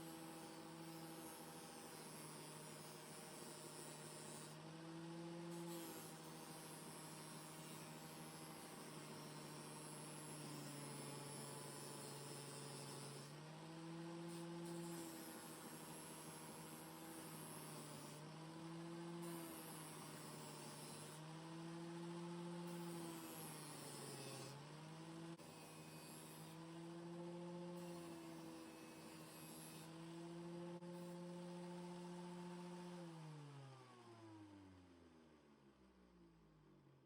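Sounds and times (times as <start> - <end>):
faint electric motor hum: 0.0 - 34.9.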